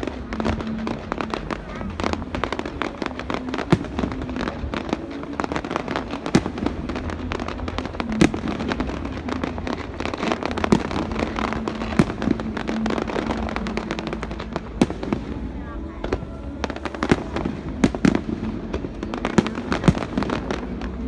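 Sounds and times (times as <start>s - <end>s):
firework bangs: 0.0s - 21.0s
fireworks crackling: 0.0s - 21.0s.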